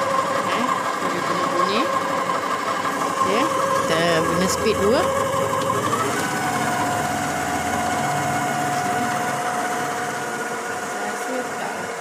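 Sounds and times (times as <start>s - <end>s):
constant motor hum: 0.0s - 12.0s
stand mixer motor whining: 0.0s - 12.0s.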